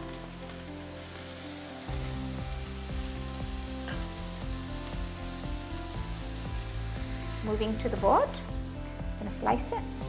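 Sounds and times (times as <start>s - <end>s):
background music: 0.0s - 10.0s
chicken sizzling on a griddle pan: 0.0s - 10.0s.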